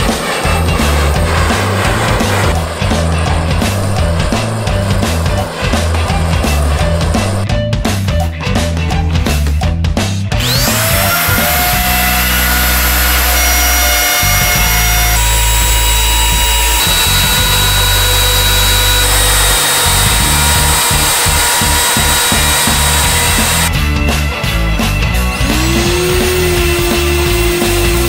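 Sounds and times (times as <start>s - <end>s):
electric router whining: 0.0s - 7.5s, 10.3s - 28.0s
background music with bass: 0.0s - 28.0s.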